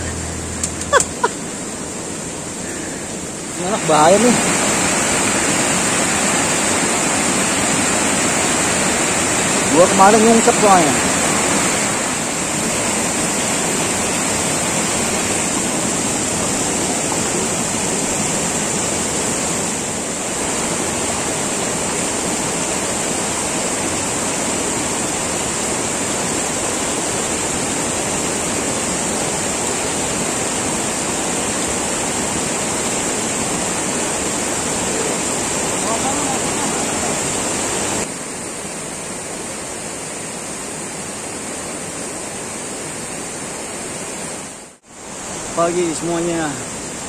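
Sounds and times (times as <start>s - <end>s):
river rushing over boulders: 0.0s - 47.0s.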